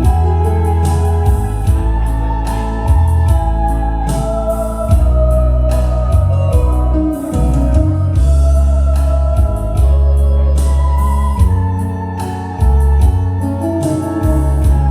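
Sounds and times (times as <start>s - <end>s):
heavy bass line: 0.0s - 14.9s
organ-like keyboard melody: 0.0s - 14.9s.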